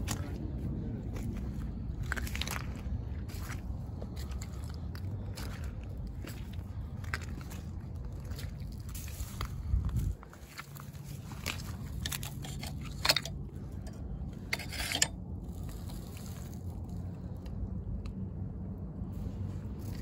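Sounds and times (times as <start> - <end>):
footsteps crunching on stones: 0.0 - 17.4
steady low rumble: 0.0 - 20.0.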